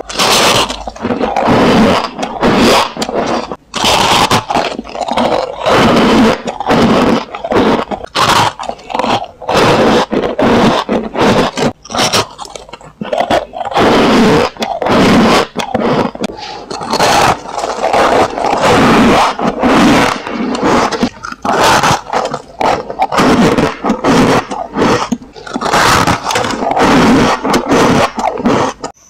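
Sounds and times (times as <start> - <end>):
frost being chewed: 0.0 - 29.0.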